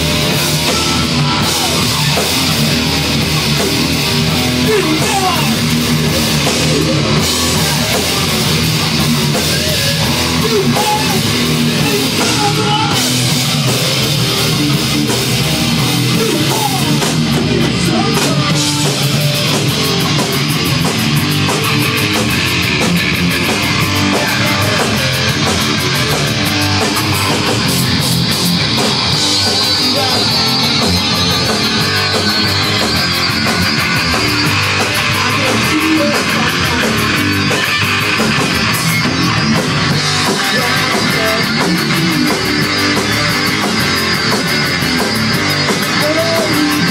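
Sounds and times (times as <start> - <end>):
bass guitar: 0.0 - 46.9
drum kit: 0.0 - 46.9
electric guitars: 0.0 - 46.9.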